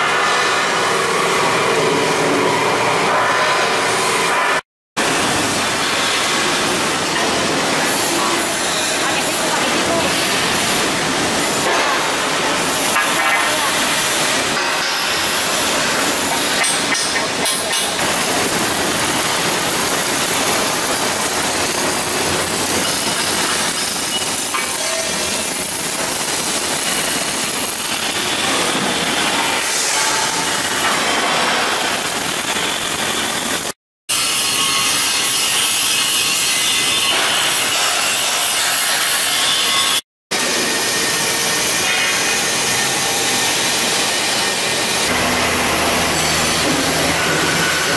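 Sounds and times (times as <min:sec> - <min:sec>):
arc welding rasping: 0:05.2 - 0:47.9.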